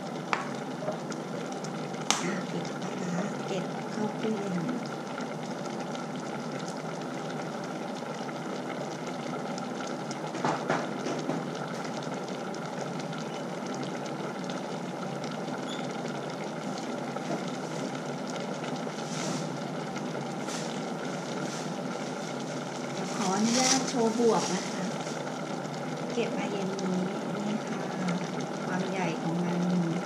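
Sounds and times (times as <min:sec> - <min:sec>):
pot boiling: 0:00.0 - 0:30.0.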